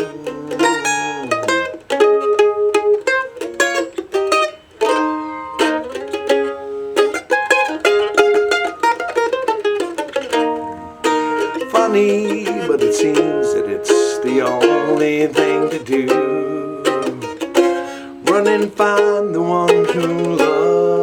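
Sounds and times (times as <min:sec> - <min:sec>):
plucked string instrument playing: 0:00.0 - 0:21.0.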